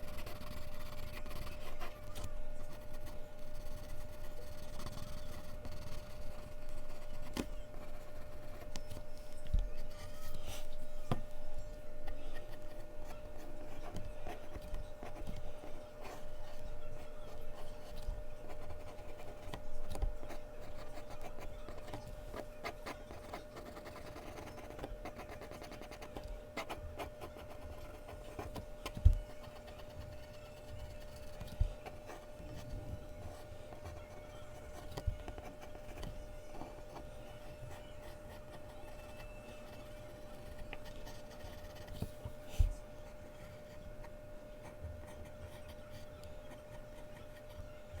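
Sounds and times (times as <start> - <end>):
pencil scratching on paper: 0.0 - 11.3, 12.0 - 43.8
faint steady hum: 0.0 - 48.0.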